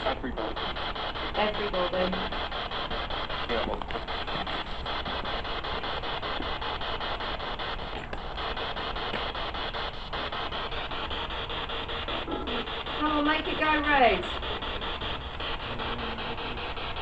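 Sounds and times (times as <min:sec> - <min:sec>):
radio static hiss: 0:00.0 - 0:17.0
rapid regular ticks: 0:00.0 - 0:17.0.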